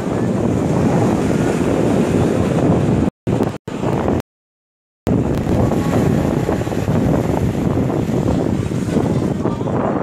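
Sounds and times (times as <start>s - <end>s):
waves washing across beach: 0.0s - 4.2s, 5.1s - 10.0s
wind rumbling on microphone: 0.0s - 4.2s, 5.1s - 10.0s.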